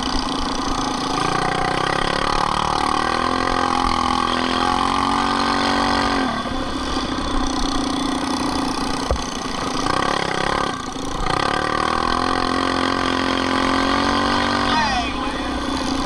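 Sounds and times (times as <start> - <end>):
minibike engines racing: 0.0 - 16.0.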